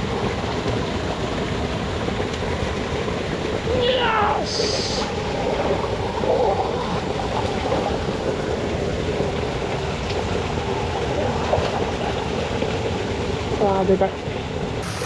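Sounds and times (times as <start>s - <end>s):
water rushing through channel: 0.0s - 15.0s.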